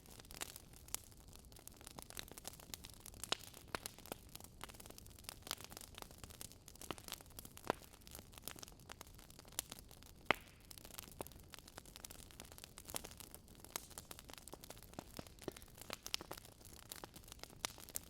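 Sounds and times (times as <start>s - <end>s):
faint steady hiss: 0.0s - 18.0s
wood fire crackling: 0.0s - 18.0s.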